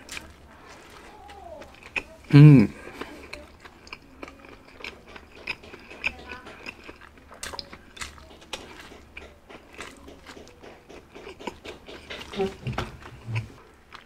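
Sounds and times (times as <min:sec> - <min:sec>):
chewing with mouth clicks: 0:00.0 - 0:14.0.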